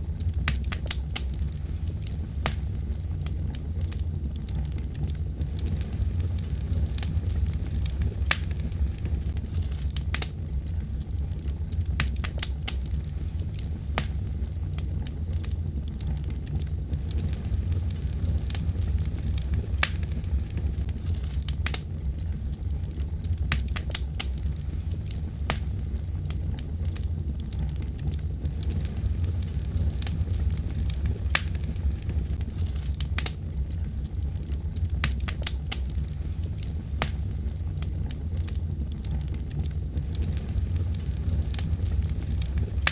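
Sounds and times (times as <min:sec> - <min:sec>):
fire crackling and popping: 0:00.0 - 0:42.9
flames rumbling: 0:00.0 - 0:42.9.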